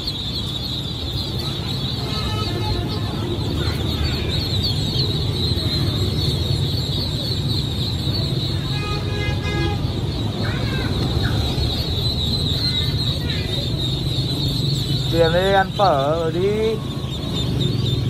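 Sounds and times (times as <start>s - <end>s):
ducklings peeping: 0.0s - 18.0s.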